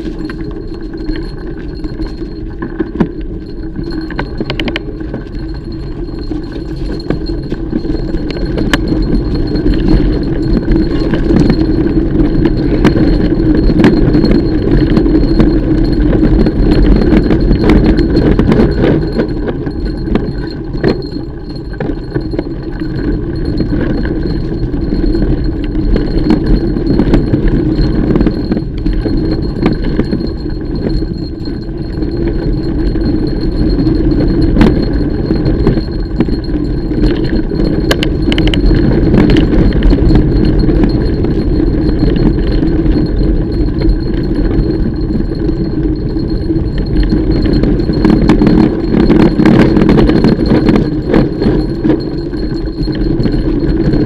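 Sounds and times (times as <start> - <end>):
bike tyres rumbling on trail: 0.0 - 54.0
metallic rattles from bike: 0.0 - 54.0.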